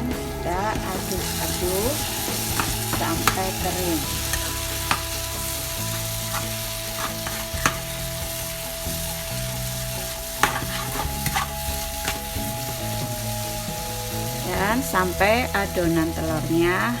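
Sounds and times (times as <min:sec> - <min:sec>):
food sizzling in a frying pan: 0:00.6 - 0:17.0
spatula scraping a pan: 0:00.9 - 0:14.5.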